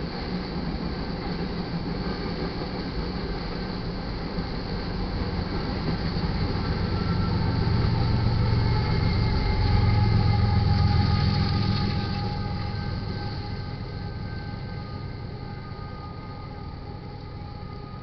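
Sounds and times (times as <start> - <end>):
diesel locomotive passing: 0.0 - 18.0
train wheels rumbling on rails: 0.0 - 18.0.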